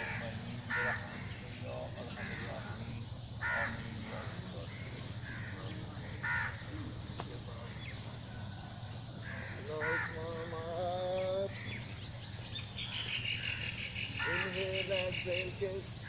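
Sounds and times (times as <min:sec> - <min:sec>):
crows cawing: 0:00.0 - 0:12.0, 0:12.8 - 0:16.0
high pulsing buzz: 0:00.0 - 0:16.0
steady low hum: 0:00.0 - 0:16.0.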